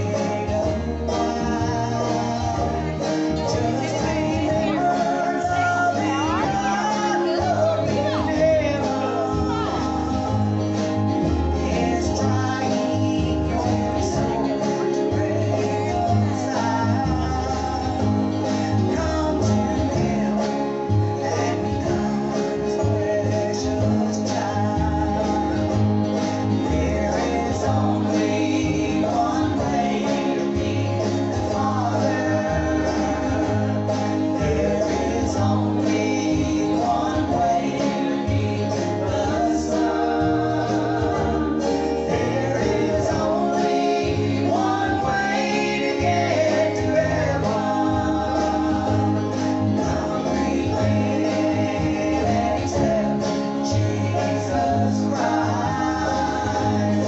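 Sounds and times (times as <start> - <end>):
gospel group singing: 0.0 - 57.0
guitar accompaniment: 0.0 - 57.0.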